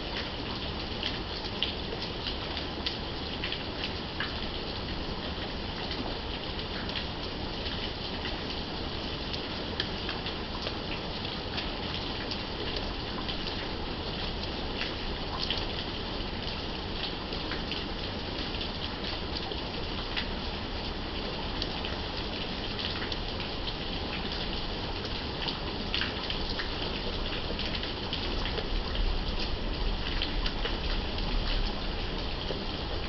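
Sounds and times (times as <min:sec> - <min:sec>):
raindrops ticking on a surface: 0:00.0 - 0:33.0
steady rain: 0:00.0 - 0:33.0.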